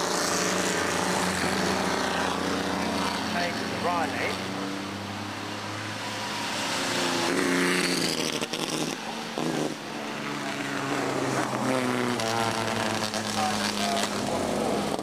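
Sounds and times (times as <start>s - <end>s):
racing car engines passing: 0.0s - 15.0s.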